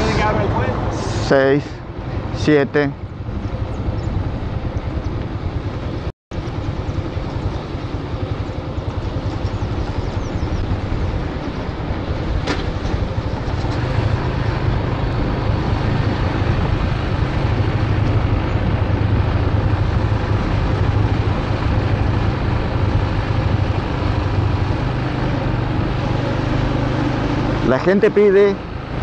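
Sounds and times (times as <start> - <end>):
road noise rushing: 0.0 - 29.0
vehicle engine drone: 0.0 - 29.0.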